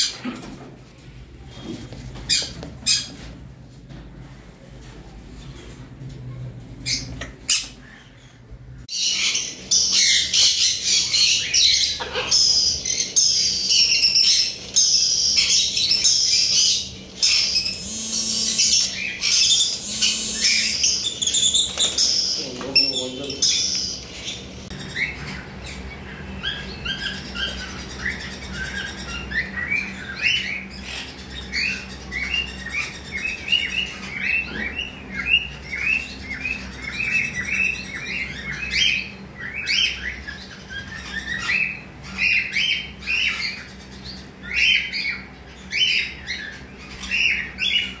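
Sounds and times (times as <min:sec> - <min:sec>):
faint hum: 0:03.9 - 0:48.0
parrots chirping: 0:06.8 - 0:48.0.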